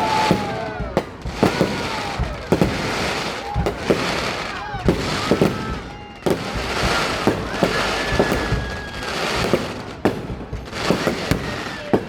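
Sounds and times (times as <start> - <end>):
crackling hiss of fireworks: 0.0 - 12.0
firework bangs: 0.0 - 12.0
high firework whistle: 0.0 - 12.0.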